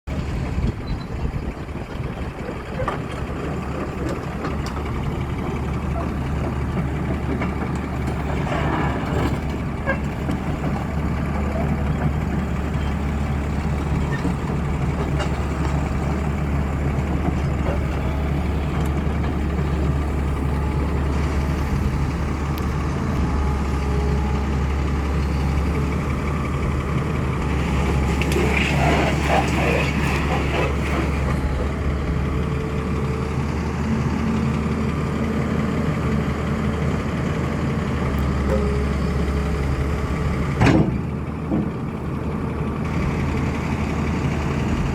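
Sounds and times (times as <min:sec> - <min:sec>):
diesel engine droning: 0:00.1 - 0:44.9.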